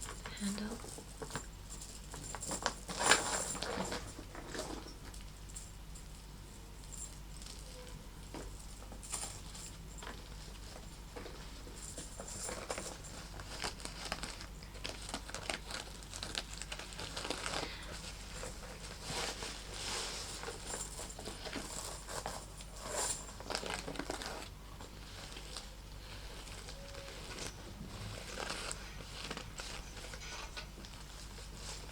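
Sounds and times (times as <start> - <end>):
leather bag crinkling and scraping: 0.0 - 5.2, 6.8 - 31.9.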